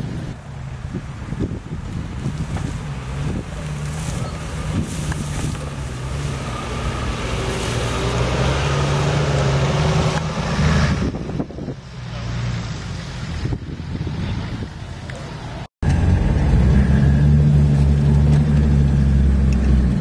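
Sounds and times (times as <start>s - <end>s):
vehicle engine at low revs: 0.0s - 20.0s.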